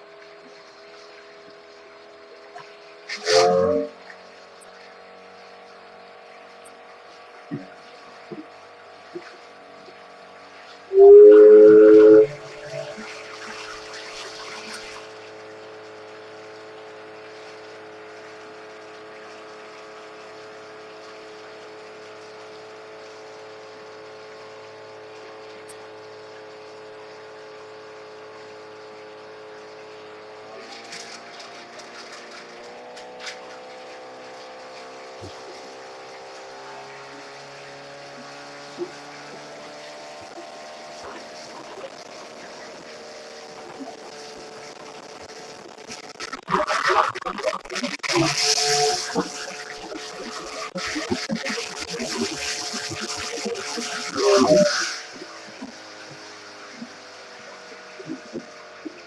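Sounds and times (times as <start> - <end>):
motor running: 0.0 - 59.0.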